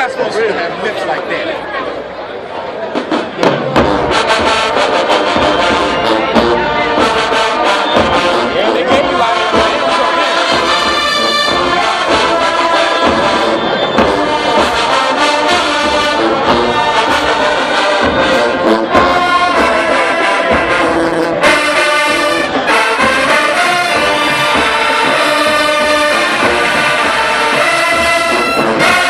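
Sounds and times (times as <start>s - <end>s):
marching band playing loudly: 2.8s - 29.0s
drum hits: 2.9s - 29.0s
brass sustained chords: 3.8s - 29.0s.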